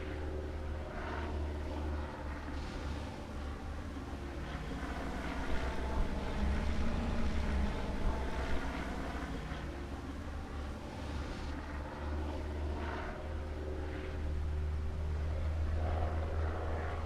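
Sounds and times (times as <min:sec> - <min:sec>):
propeller plane engine droning: 0:00.0 - 0:17.0
wind rumble on microphone: 0:01.6 - 0:17.0.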